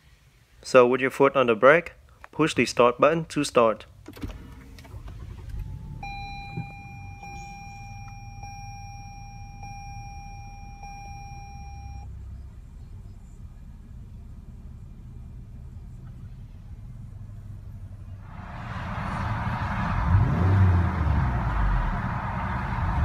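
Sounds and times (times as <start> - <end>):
car engine starting and idling: 3.9 - 23.0.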